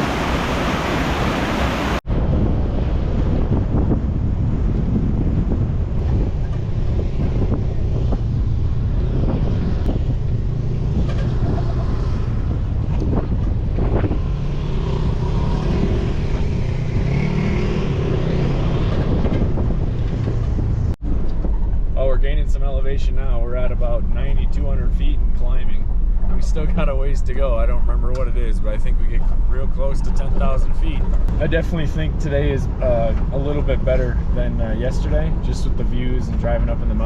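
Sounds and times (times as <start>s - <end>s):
off-road vehicle engine rumble: 0.0s - 37.0s.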